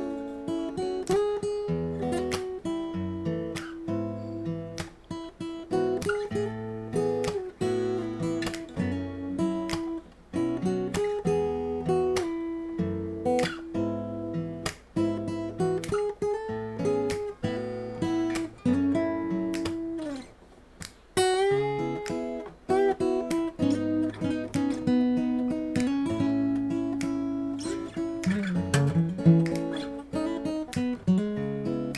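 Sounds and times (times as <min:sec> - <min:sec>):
acoustic guitar melody: 0:00.0 - 0:31.9.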